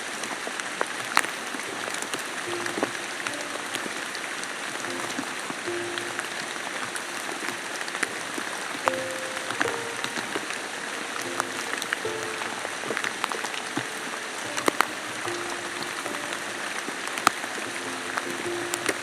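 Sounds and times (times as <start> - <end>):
rain hiss: 0.0 - 19.0
soft musical notes: 1.2 - 19.0.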